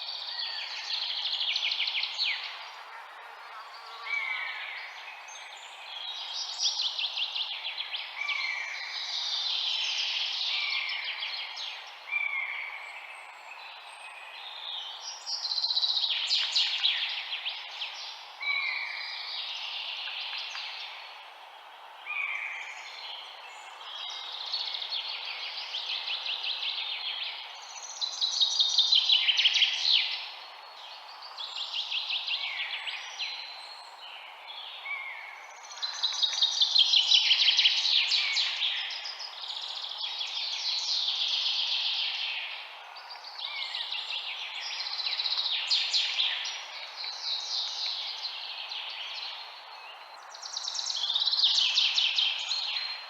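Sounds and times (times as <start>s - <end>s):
faint steady hiss: 0.0s - 53.0s
songbirds chirping and singing: 0.0s - 53.0s.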